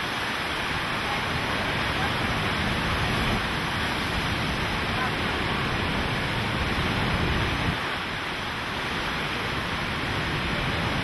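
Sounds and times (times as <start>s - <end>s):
driving rain: 0.0s - 11.0s
strong wind: 0.0s - 11.0s
wind buffeting the microphone: 0.0s - 11.0s.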